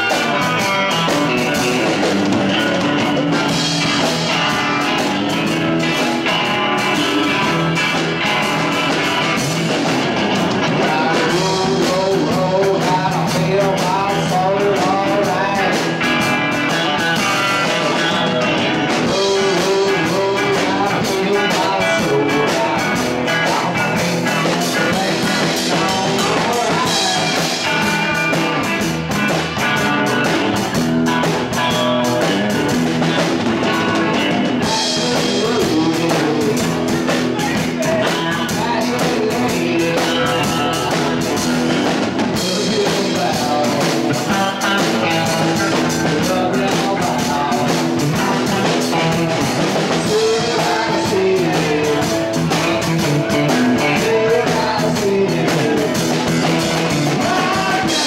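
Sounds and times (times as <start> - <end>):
drum kit: 0.0 - 58.0
guitar: 0.0 - 58.0
live band playing: 0.0 - 58.0.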